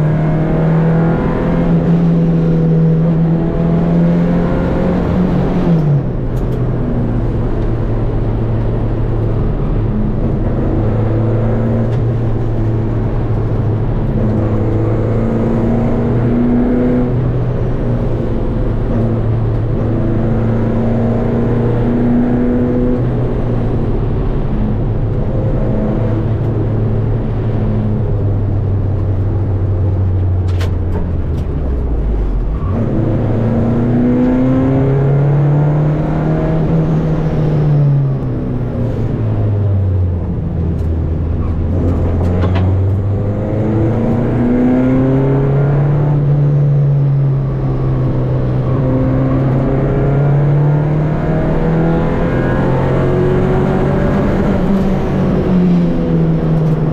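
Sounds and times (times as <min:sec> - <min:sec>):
rally car engine revving: 0:00.0 - 0:56.9.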